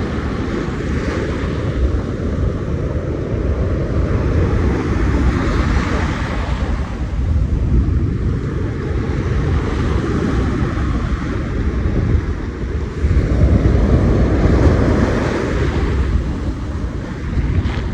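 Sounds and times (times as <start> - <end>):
ocean waves washing in: 0.0 - 17.9
wind rumbling on microphone: 0.0 - 17.9.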